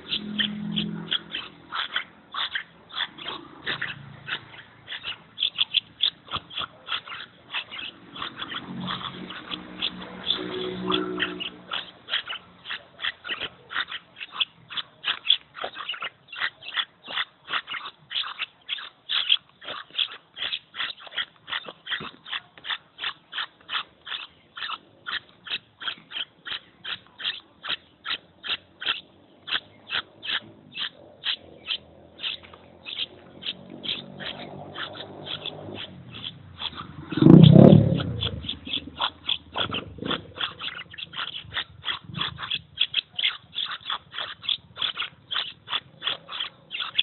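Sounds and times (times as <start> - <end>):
fledgling bird chirping: 0.0 - 47.0.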